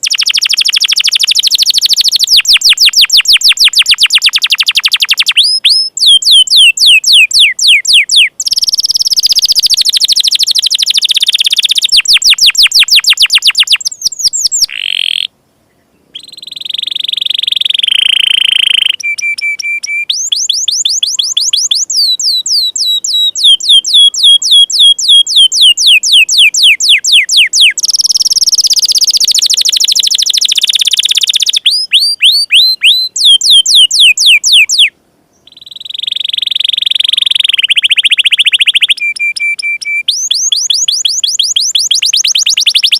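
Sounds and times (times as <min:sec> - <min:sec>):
canary held whistle: 0:00.0 - 0:15.3, 0:16.2 - 0:34.9, 0:35.5 - 0:42.9
canary singing rapid chirps: 0:00.0 - 0:15.3, 0:16.2 - 0:34.9, 0:35.5 - 0:42.9.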